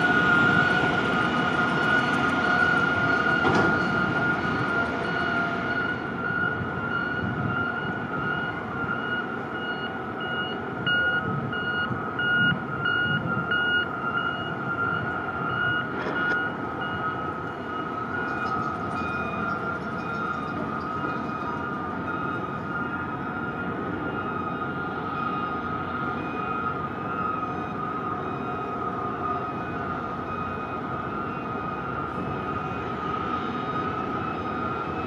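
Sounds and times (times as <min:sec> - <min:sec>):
high-pitched alarm tone: 0:00.0 - 0:35.0
low rumble of machinery: 0:00.0 - 0:35.0.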